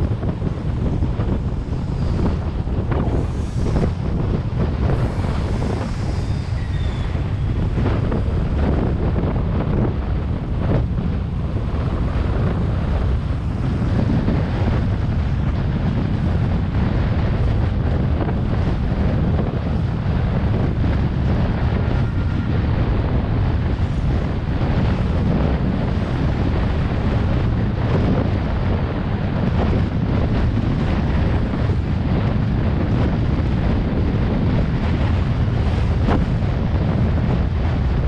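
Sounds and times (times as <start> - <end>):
road traffic noise: 0.0 - 38.0
wind buffeting microphone: 0.0 - 38.0.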